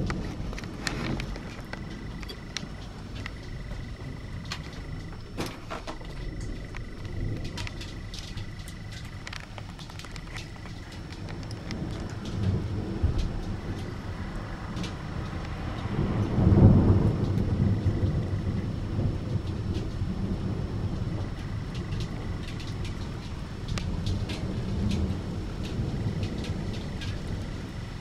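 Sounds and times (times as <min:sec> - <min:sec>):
thunder rumbling: 0:00.0 - 0:28.0.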